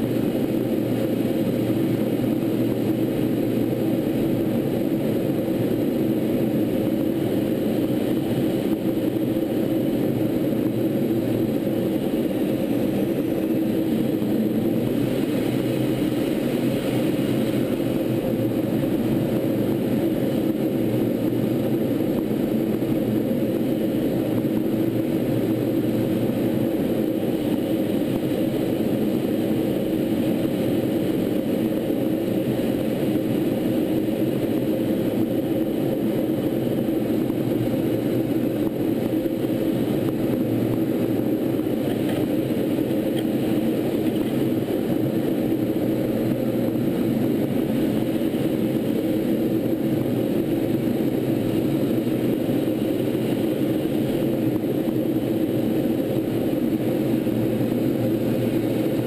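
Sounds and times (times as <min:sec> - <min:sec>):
airflow hiss over airframe: 0:00.0 - 0:59.0
jet engine drone in flight: 0:00.0 - 0:59.0.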